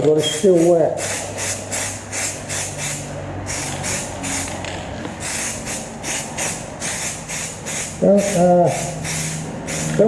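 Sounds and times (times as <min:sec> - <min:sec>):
aerosol spray can hissing: 0:01.0 - 0:04.6, 0:05.2 - 0:10.0.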